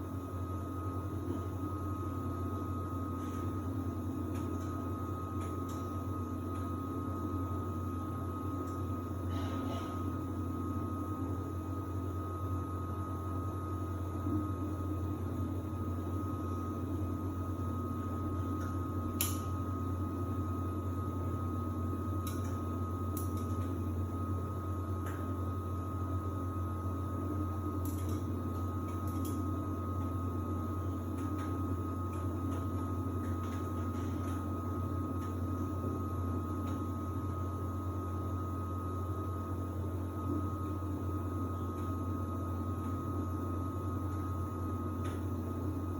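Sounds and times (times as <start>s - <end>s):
washer-dryer humming: 0.0s - 45.9s.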